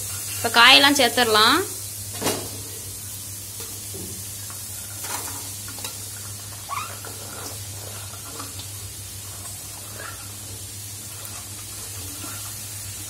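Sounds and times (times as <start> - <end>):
food sizzling in oil in a wok: 0.0 - 13.0.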